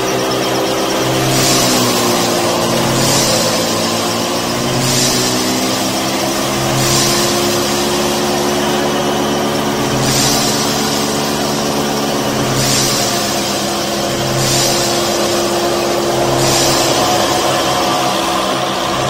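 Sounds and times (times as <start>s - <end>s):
machine humming: 0.0s - 19.0s
pulsing hiss: 0.0s - 19.0s.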